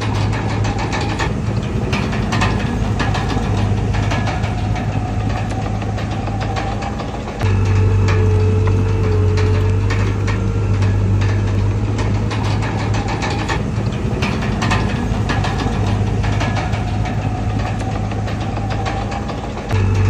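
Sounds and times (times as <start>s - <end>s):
diesel engine humming: 0.0s - 20.0s
metallic clanks and knocks: 0.0s - 20.0s.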